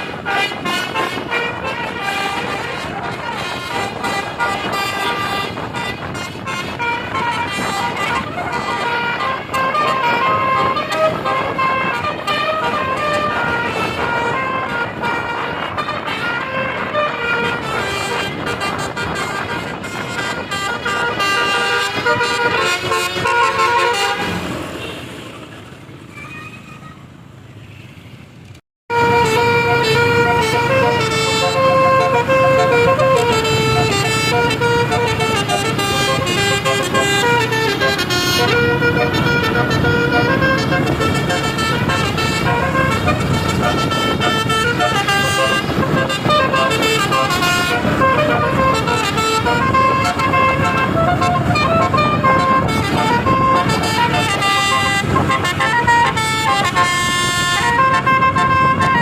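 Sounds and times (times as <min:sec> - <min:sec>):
bus horn playing a melody: 0:00.0 - 0:25.2, 0:28.9 - 0:59.0
bus engine rumble: 0:00.0 - 0:59.0.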